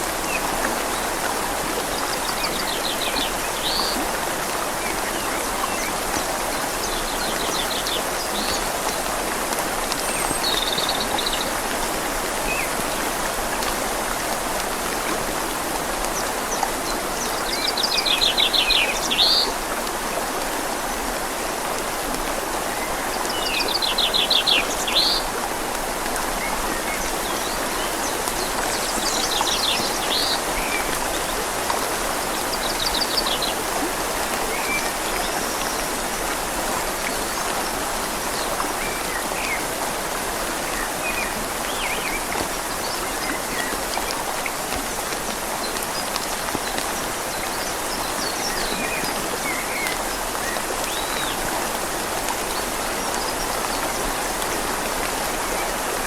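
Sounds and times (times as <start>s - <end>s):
rain falling on leaves: 0.0s - 56.0s
river flowing: 0.0s - 56.0s.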